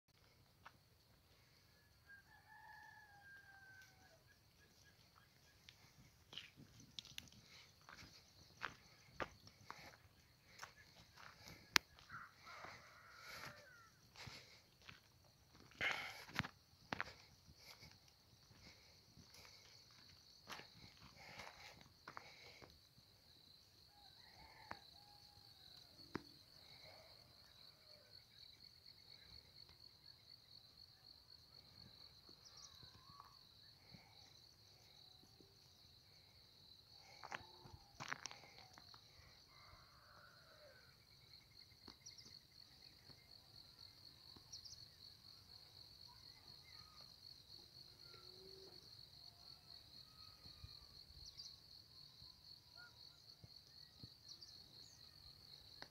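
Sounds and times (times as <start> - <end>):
insects chirring: 0.2 - 55.9.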